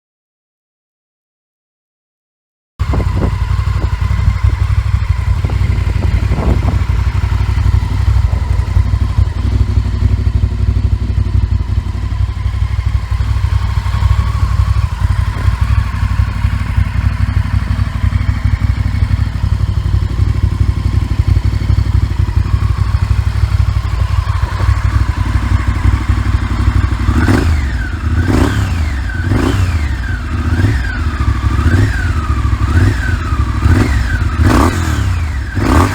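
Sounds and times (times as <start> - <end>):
motorcycle engine idling: 2.8 - 35.9
motorcycle throttle blips: 2.8 - 35.9.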